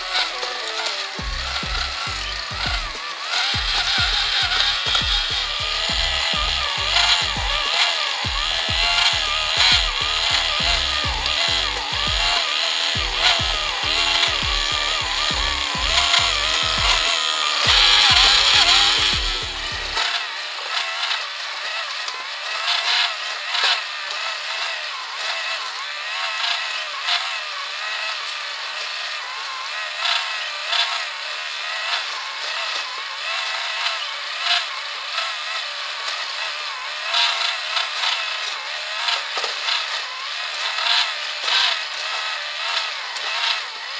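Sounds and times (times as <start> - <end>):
small electric motor whirring: 0.0 - 43.9.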